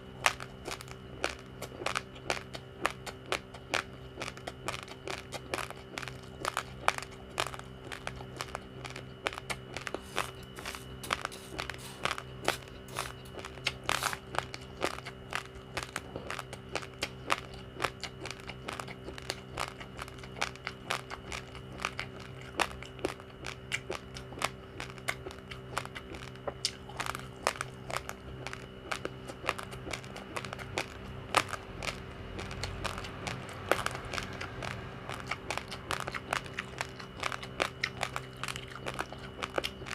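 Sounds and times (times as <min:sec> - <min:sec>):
chewing crunchy rice: 0:00.0 - 0:39.9
steady hum: 0:00.0 - 0:39.9.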